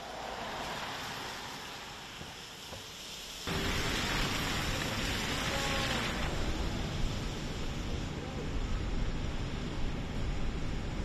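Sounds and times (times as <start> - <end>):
traffic hiss on wet roads: 0.0 - 11.0.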